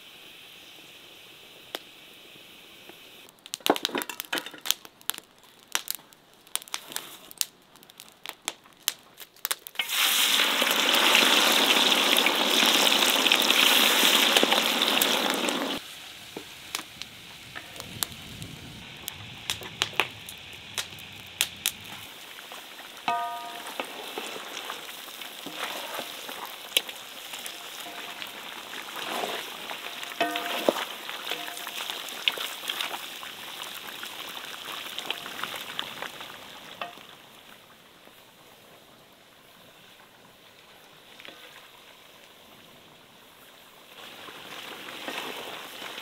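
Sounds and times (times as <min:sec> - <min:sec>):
loud sizzle: 0:00.0 - 0:08.6, 0:09.4 - 0:40.0, 0:43.4 - 0:46.0
meat frying with crackles and pops: 0:00.0 - 0:46.0.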